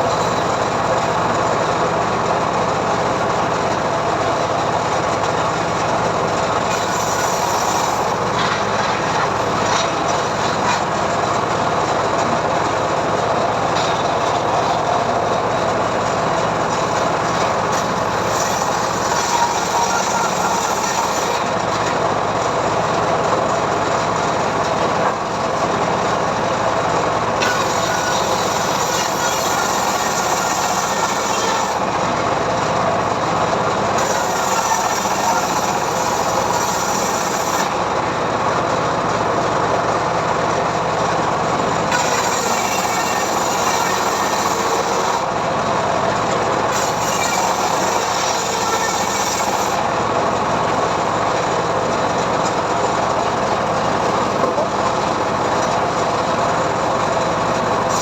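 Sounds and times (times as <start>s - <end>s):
sawmill blade cutting log: 0.0s - 58.0s.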